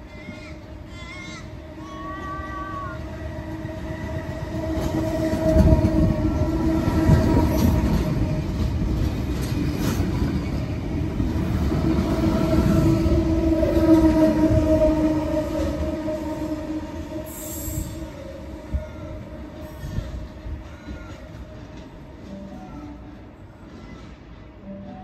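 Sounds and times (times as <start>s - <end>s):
electric train passing: 0.0s - 25.0s
train rumble and hum: 0.0s - 25.0s.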